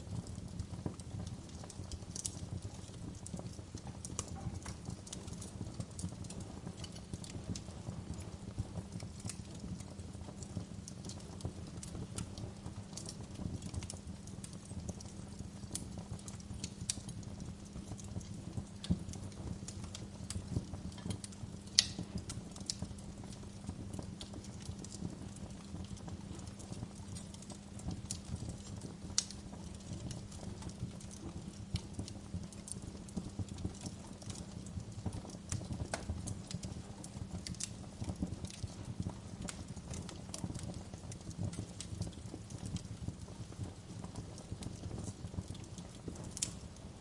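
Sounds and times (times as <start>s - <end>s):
low rumble of flames: 0.0s - 47.0s
wood fire crackling and popping: 0.0s - 47.0s.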